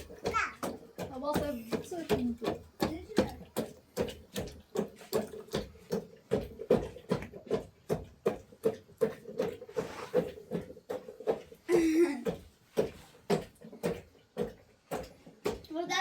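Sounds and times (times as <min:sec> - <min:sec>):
sharp rhythmic knocking: 0:00.0 - 0:09.6, 0:10.2 - 0:16.0.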